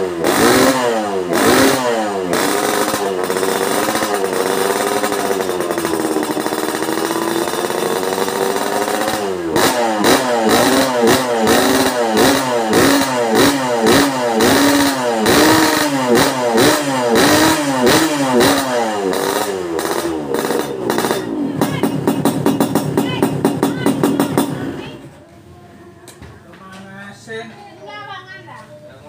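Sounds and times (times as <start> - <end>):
two-stroke motorcycle engine revving: 0.0 - 25.1.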